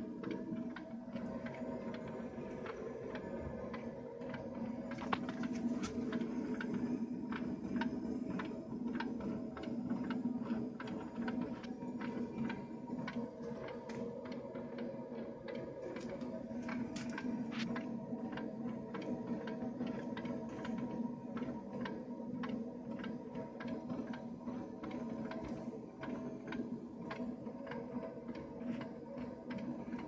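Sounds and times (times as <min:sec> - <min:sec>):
steady hum: 0:00.0 - 0:27.6.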